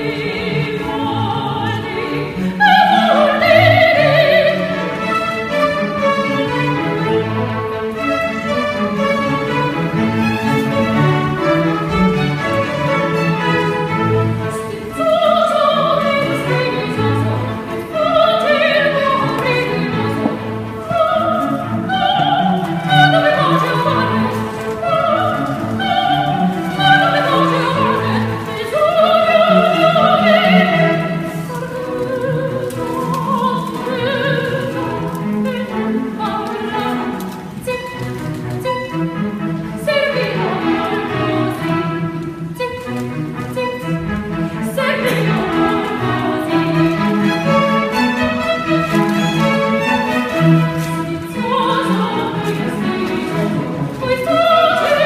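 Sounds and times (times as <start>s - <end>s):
female operatic singing: 0.0s - 9.1s, 9.7s - 55.0s
string orchestra: 0.0s - 55.0s.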